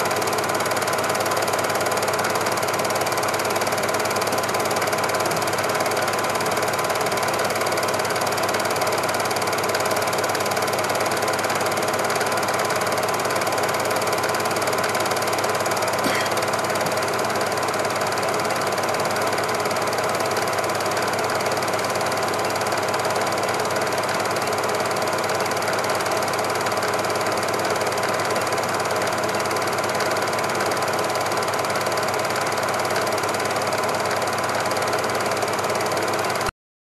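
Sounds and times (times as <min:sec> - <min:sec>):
film projector whirring and clattering: 0:00.0 - 0:36.5.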